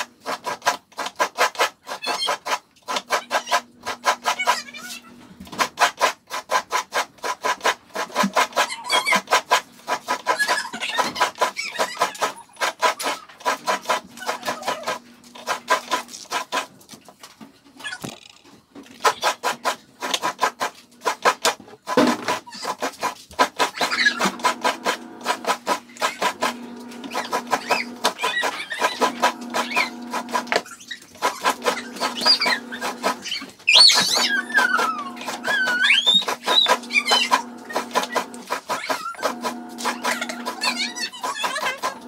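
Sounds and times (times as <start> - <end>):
coconut scraping on grater: 0.0 - 16.7, 19.0 - 42.0.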